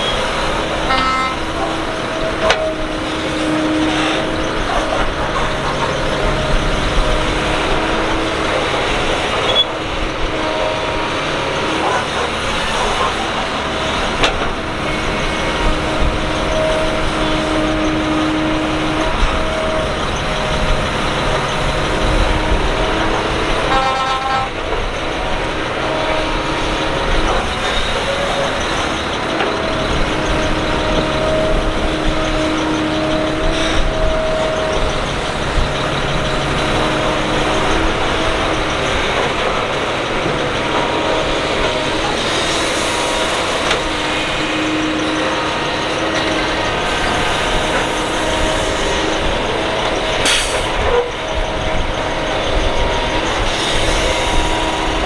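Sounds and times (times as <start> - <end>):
excavator diesel engine under load: 0.0 - 55.0
hydraulic whine: 0.0 - 55.0.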